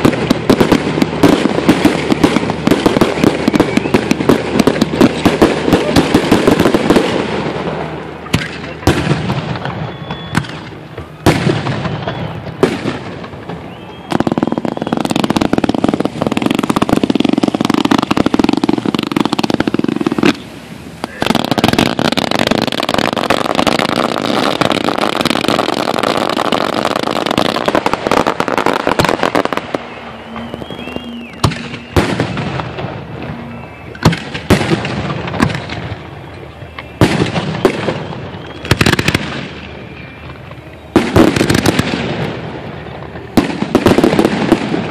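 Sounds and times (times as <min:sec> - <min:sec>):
fireworks banging: 0:00.0 - 0:44.9.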